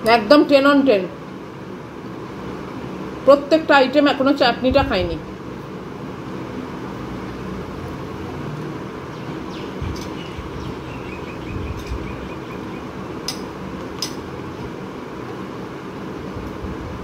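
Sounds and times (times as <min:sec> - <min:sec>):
background hum and rumble: 0:00.0 - 0:17.0.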